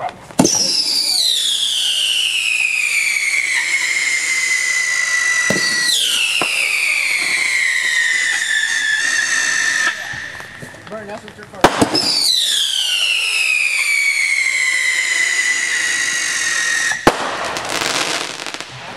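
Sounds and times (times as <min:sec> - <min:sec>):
fireworks whistling: 0:00.0 - 0:18.9.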